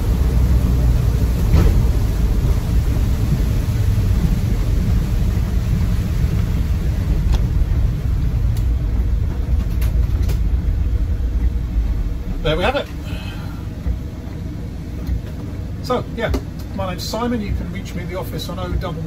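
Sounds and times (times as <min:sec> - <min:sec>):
diesel engine and tyres droning: 0:00.0 - 0:19.0.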